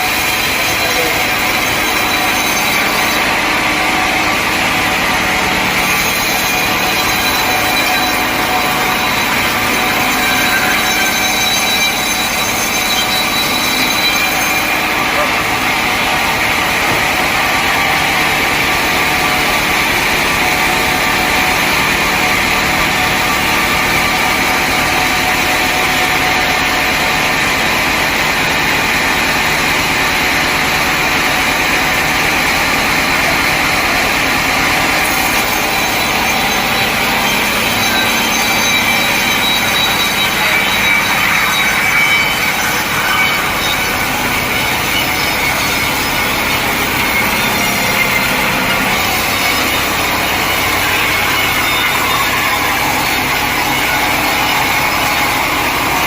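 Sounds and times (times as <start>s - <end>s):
saw cutting through log: 0.0s - 56.0s.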